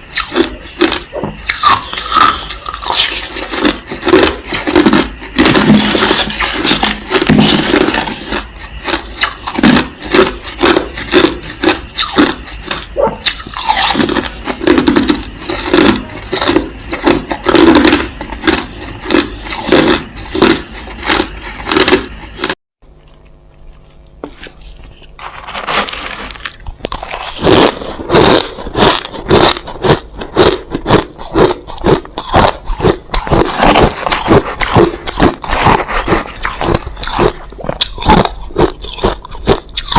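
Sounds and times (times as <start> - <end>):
crushed ice being chewed: 0.0 - 39.9
faint hum: 0.0 - 39.9.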